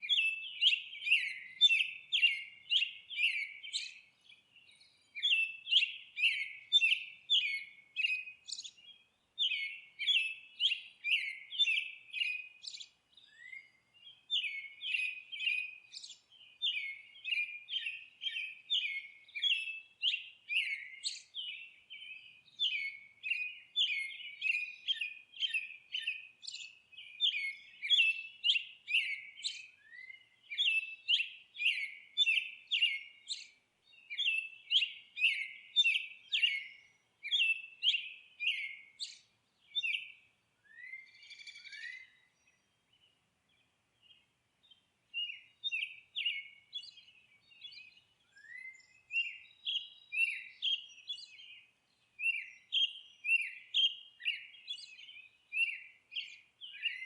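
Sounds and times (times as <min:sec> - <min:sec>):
small songbird chirping: 0:00.0 - 0:57.0.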